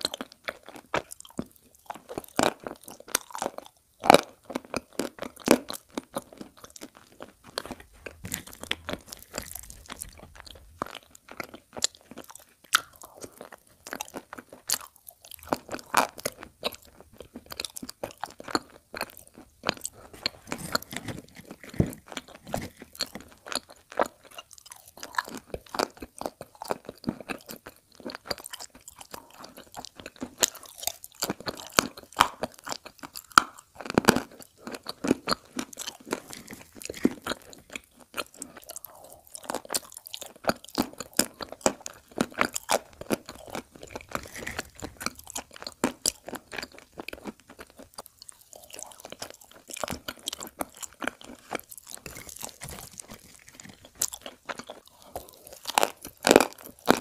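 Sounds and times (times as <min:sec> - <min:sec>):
person chewing chalk: 0:00.0 - 0:57.0.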